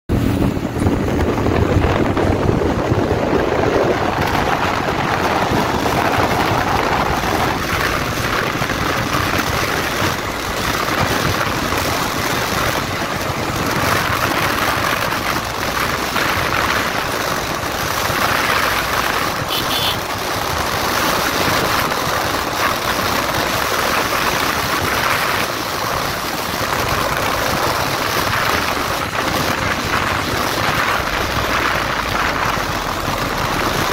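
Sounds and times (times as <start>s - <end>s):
wind and road noise: 0.0s - 33.9s
motorcycle engine running: 0.1s - 33.9s.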